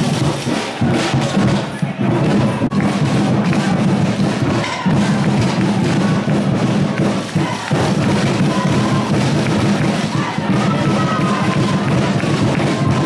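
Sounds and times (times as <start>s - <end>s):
loud music with drums: 0.0s - 13.0s.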